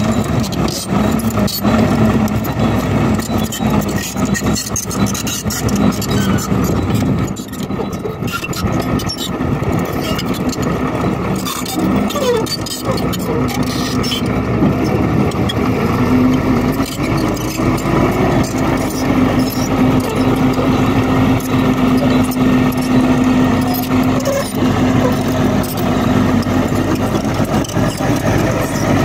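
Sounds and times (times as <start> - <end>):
bulldozer engine droning: 0.0 - 29.0.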